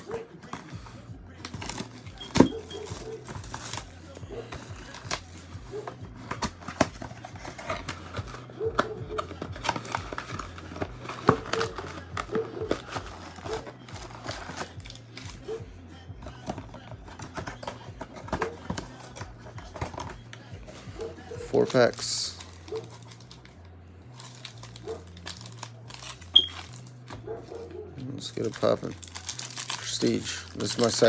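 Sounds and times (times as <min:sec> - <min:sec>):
foil packs rustling: 0:00.0 - 0:15.6, 0:16.2 - 0:31.0.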